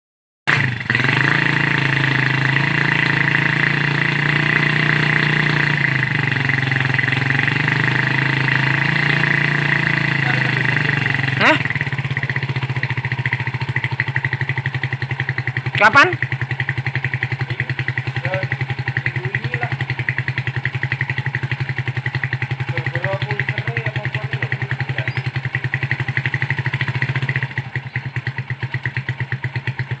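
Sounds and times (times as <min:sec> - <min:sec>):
motorcycle engine idling: 0:00.5 - 0:30.0.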